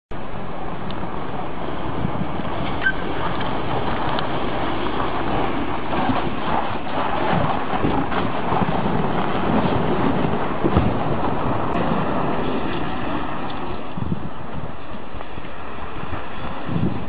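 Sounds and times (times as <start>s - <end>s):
diesel engine rumbling: 0.1s - 17.0s.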